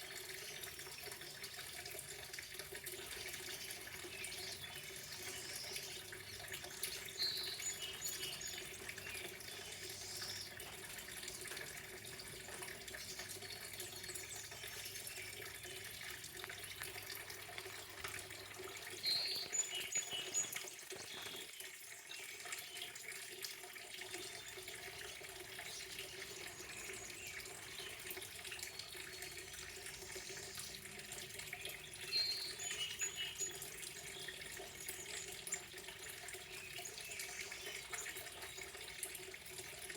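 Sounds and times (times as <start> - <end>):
running water splashing: 0.0 - 21.6, 22.3 - 39.9
songbird singing: 3.0 - 23.0, 24.0 - 38.8.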